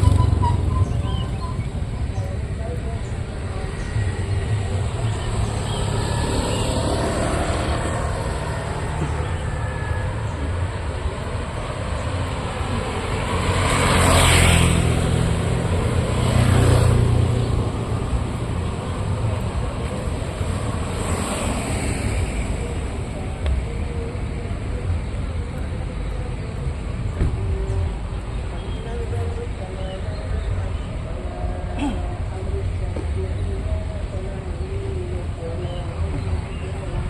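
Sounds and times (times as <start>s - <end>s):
road traffic rumble: 0.0s - 37.0s
vehicles passing close by: 0.0s - 37.0s.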